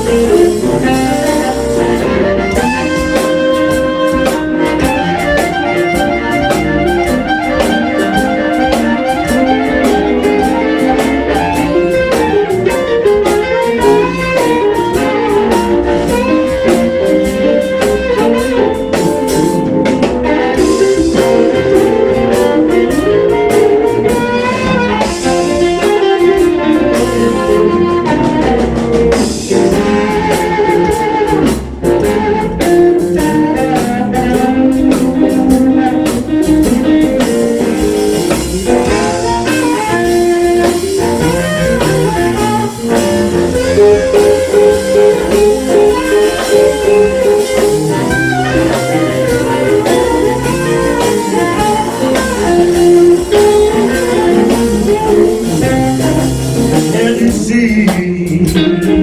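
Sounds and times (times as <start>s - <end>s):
drums: 0.0s - 59.0s
electric guitars: 0.0s - 59.0s
harmonica through microphone: 0.0s - 59.0s.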